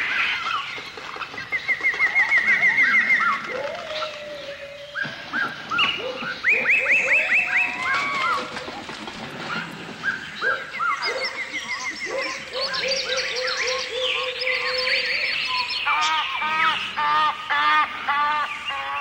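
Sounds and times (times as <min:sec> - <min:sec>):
harsh bird calls: 0:00.0 - 0:08.8, 0:09.5 - 0:19.0
birds chirping and trilling: 0:00.0 - 0:19.0.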